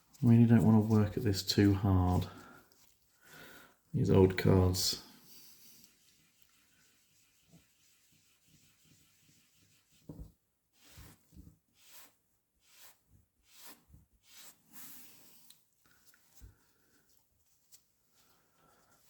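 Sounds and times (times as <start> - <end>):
rubbing strokes on a card: 0.0 - 3.2, 4.1 - 19.0.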